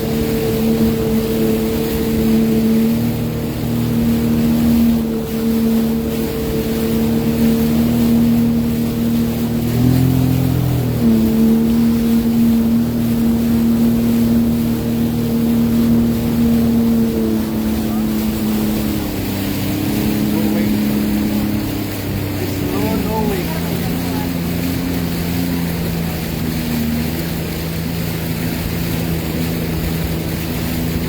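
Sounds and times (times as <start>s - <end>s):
watercraft engine running: 0.0s - 31.0s.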